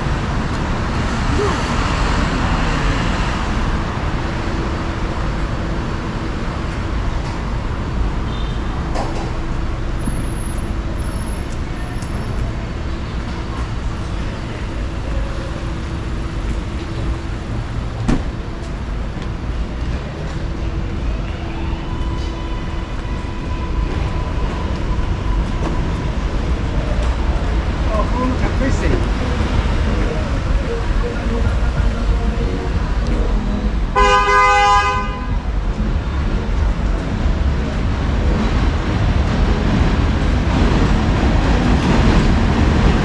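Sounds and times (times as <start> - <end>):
low rumble of street traffic: 0.0 - 43.0.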